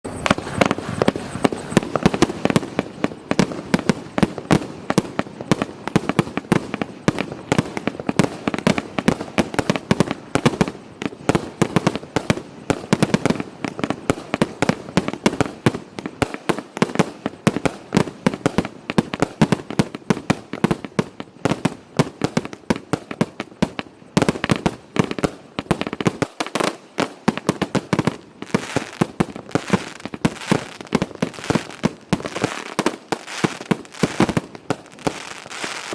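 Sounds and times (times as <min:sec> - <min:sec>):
firework barrage: 0:00.0 - 0:35.9.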